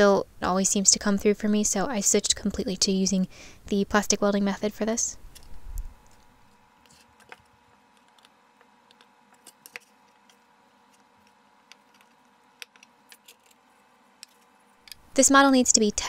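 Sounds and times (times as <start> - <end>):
light steady hum: 0.0 - 16.0.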